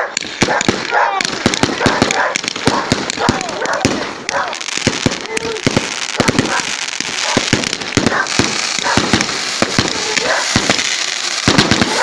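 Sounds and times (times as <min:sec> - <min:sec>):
fireworks bangs: 0:00.0 - 0:12.0
fireworks crackling hiss: 0:00.2 - 0:12.0.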